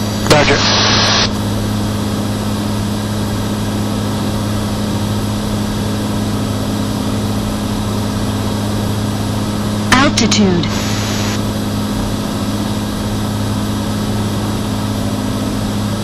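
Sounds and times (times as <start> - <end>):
aircraft engine and propeller drone: 0.0 - 16.0.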